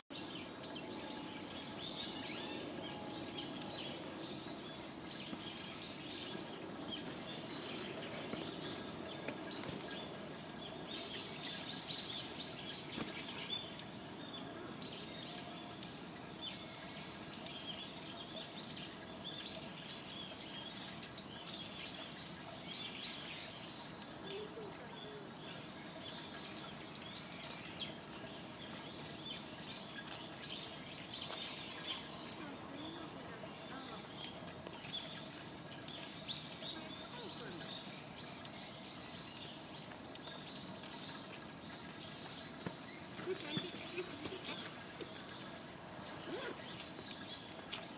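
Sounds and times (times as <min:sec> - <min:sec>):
low steady background noise: 0:00.1 - 0:47.9
small birds chirping: 0:00.1 - 0:47.9.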